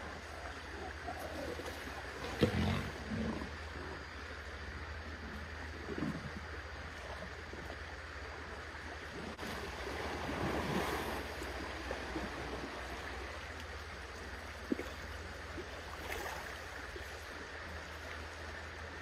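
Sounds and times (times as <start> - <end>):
water sloshing around elephants: 0.0 - 19.0.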